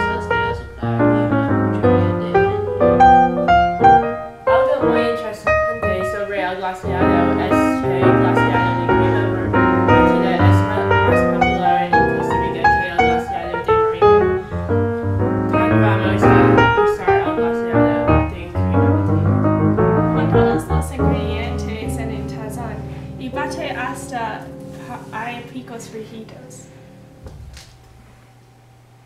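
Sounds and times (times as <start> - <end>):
piano music with quick notes: 0.0 - 27.7.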